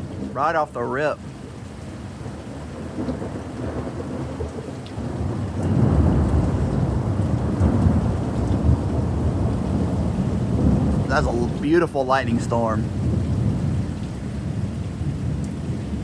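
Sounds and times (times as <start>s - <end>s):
steady rain: 0.0s - 16.0s
thunder rumbling: 2.6s - 16.0s.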